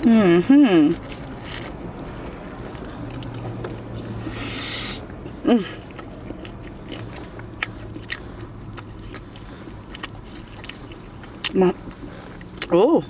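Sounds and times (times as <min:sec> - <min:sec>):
person chewing: 0:00.0 - 0:12.8.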